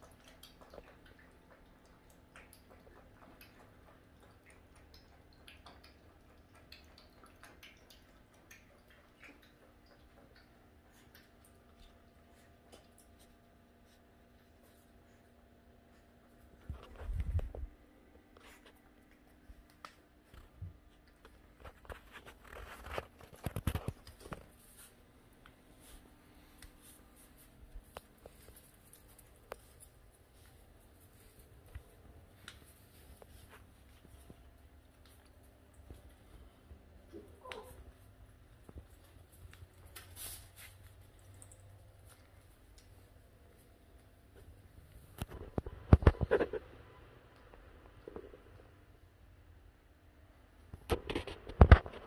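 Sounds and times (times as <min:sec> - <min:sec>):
puppy eating from plastic bowl: 0:00.0 - 0:48.8, 0:50.6 - 0:52.0.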